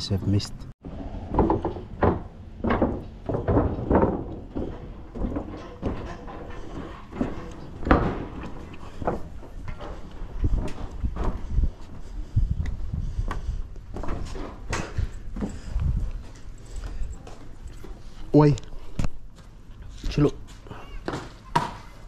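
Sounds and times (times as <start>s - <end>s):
footsteps on wooden planks: 1.4s - 22.0s.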